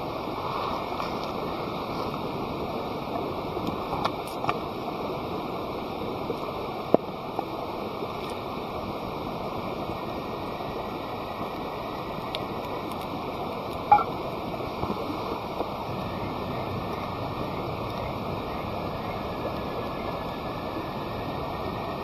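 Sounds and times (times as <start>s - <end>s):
campfire burning: 1.1s - 20.9s.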